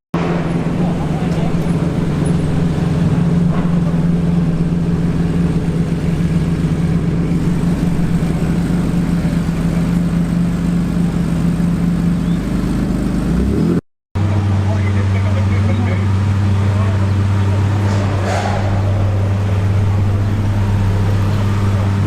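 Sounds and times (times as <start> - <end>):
car engine idling: 0.2 - 13.5, 14.2 - 22.0.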